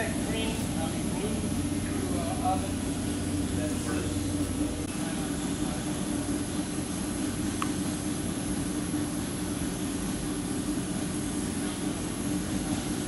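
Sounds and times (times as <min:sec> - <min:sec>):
industrial machinery humming: 0:00.0 - 0:13.0.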